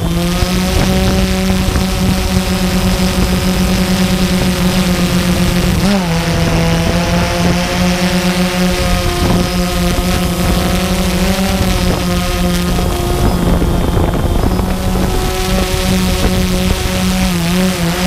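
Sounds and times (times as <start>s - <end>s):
drone propellers buzzing: 0.0s - 18.0s
wind noise on microphone: 0.0s - 18.0s.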